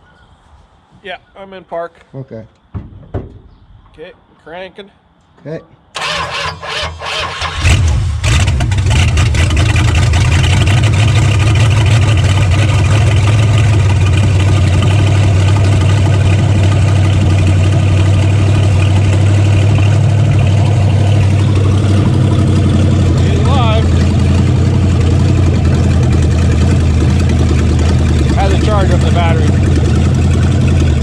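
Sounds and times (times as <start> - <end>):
car engine starting and running: 6.0 - 31.0.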